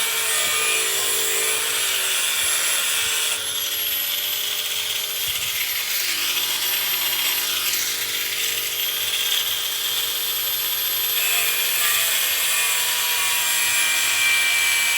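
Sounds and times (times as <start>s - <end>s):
power tool running: 0.0s - 14.6s.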